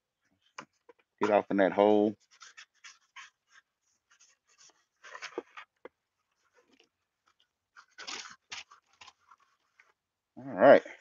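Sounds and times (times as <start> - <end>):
scuff pad scratching helmet: 0.6 - 10.0.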